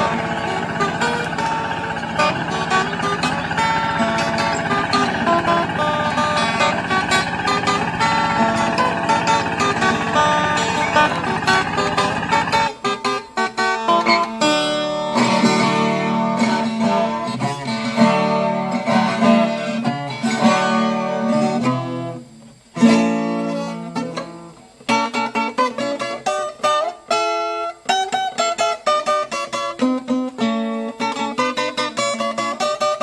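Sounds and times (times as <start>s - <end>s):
acoustic guitar plucked and strummed: 0.0s - 33.0s.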